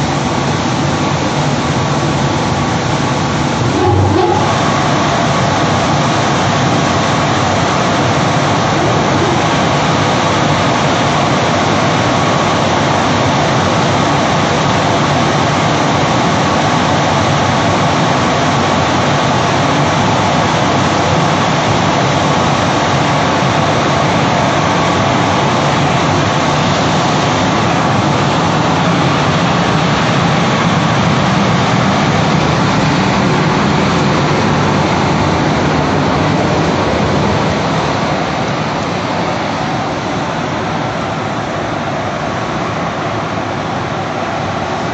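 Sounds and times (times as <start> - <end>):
machine whine: 0.0 - 41.3.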